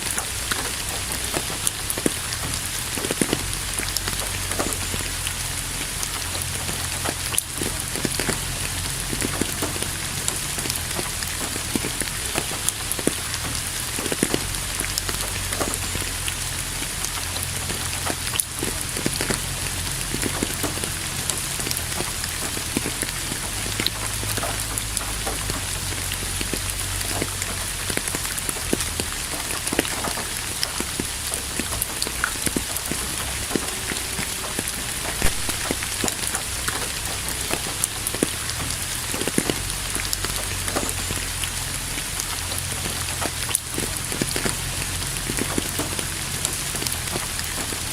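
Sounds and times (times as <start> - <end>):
rain drops striking a surface: 0.0 - 47.9.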